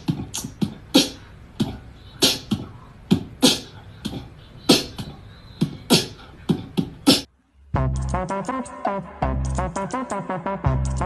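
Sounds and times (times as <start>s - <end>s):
beatboxing: 0.0s - 11.0s.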